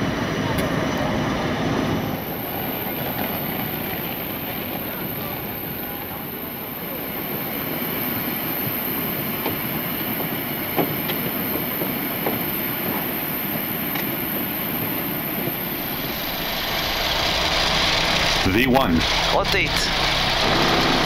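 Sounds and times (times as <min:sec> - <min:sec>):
aircraft rumble with high whine: 0:00.0 - 0:21.0.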